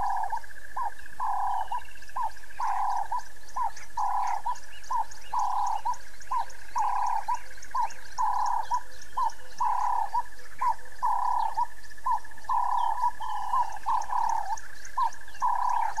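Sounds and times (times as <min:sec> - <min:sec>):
warbling bird calls: 0:00.0 - 0:16.0.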